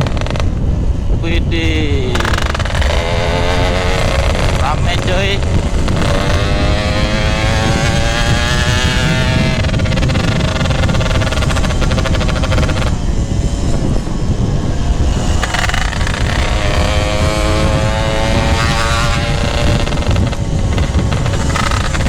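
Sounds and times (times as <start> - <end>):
two-stroke motorcycle engine revving: 0.0 - 22.0
wind rumble on microphone: 0.0 - 22.0.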